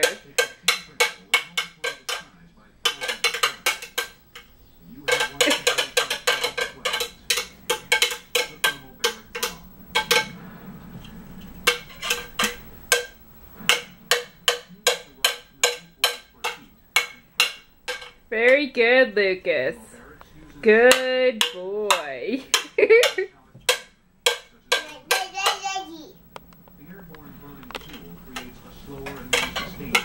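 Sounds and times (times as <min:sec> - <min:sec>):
metal spoon banging on a bowl: 0:00.0 - 0:10.4, 0:11.6 - 0:18.6, 0:20.6 - 0:25.8, 0:28.3 - 0:30.0.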